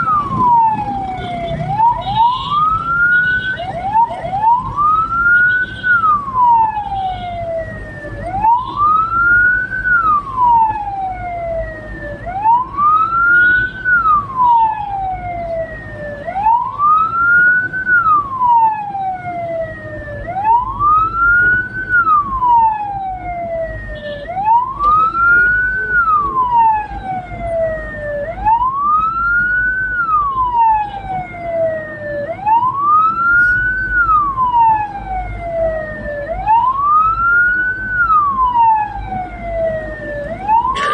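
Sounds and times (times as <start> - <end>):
low vehicle rumble: 0.0 - 40.9
siren wailing: 0.0 - 40.9.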